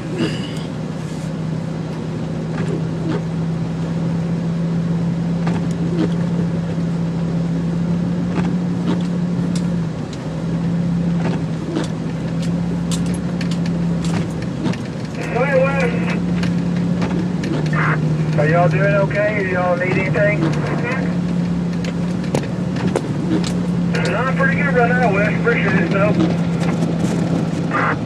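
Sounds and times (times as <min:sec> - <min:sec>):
car engine drone: 0:00.0 - 0:28.0
road noise: 0:00.0 - 0:28.0.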